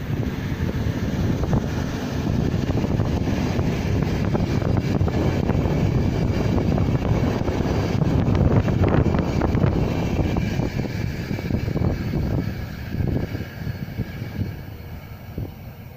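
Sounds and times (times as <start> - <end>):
train rumbling past: 0.0 - 15.9
wind buffeting microphone: 0.0 - 15.9.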